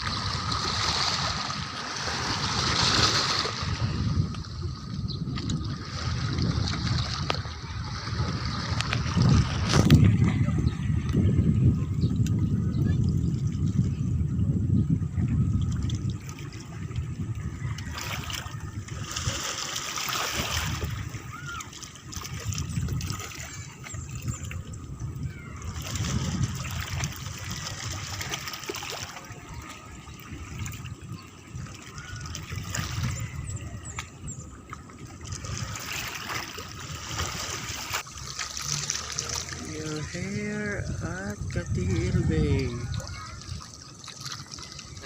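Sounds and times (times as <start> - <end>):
water trickling and splashing: 0.0 - 45.0.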